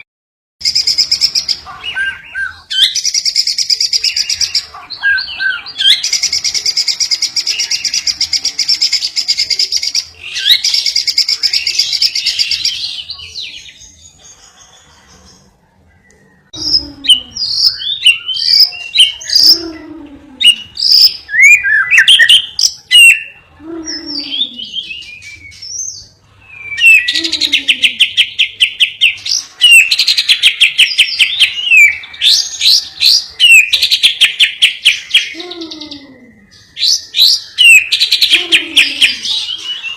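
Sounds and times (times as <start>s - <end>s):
songbirds trilling and chirping: 0.6s - 39.9s.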